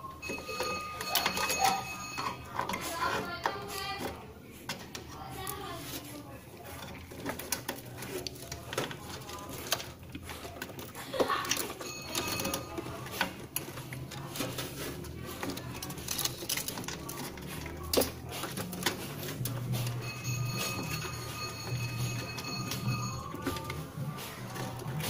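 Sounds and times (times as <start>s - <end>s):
clicks and knocks of handling: 0.2s - 25.0s.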